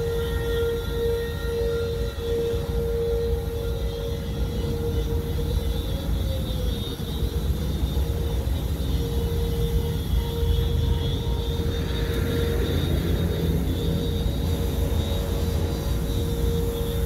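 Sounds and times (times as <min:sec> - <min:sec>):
pressure washer drone: 0:00.0 - 0:17.0.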